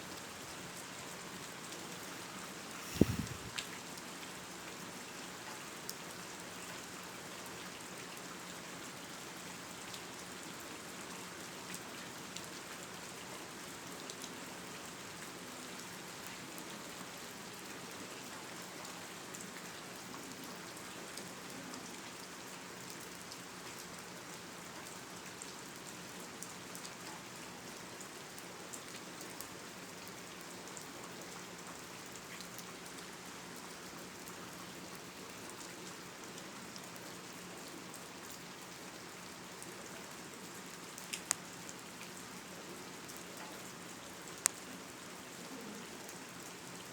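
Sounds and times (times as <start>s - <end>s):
steady hiss with crackles: 0.0s - 46.9s.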